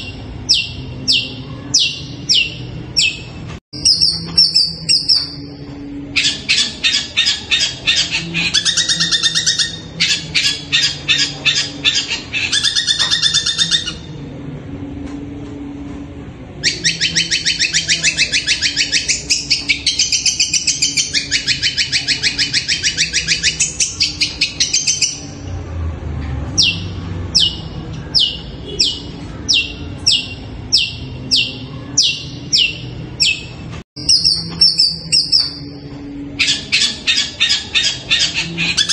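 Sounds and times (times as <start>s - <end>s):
bird singing harsh trills: 0.0s - 14.2s, 16.6s - 25.4s, 26.5s - 35.8s, 36.4s - 38.9s.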